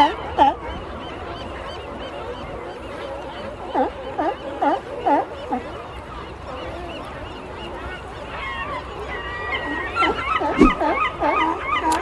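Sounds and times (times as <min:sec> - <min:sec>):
chatter of smaller animal calls: 0:00.0 - 0:12.0.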